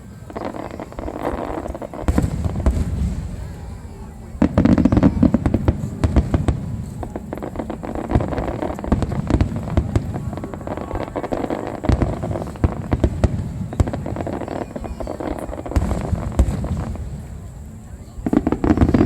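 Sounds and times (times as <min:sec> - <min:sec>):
fireworks booming and banging: 0:00.0 - 0:19.0.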